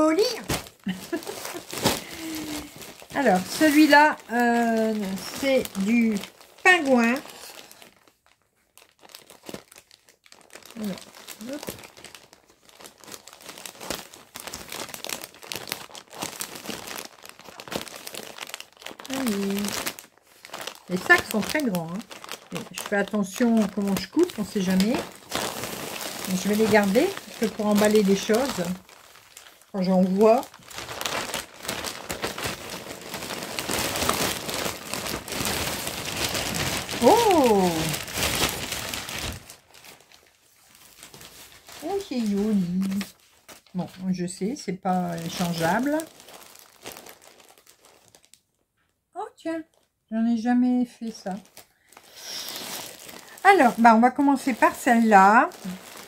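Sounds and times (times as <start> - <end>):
plastic bag crinkling: 0.0 - 48.9, 49.7 - 50.0, 51.0 - 56.0.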